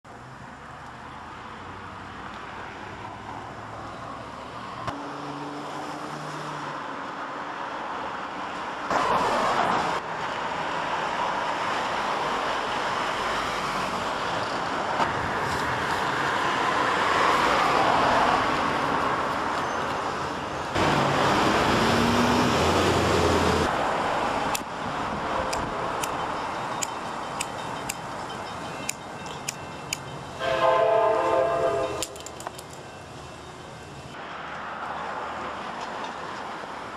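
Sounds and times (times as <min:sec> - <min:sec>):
road traffic passing: 0:00.0 - 0:36.9.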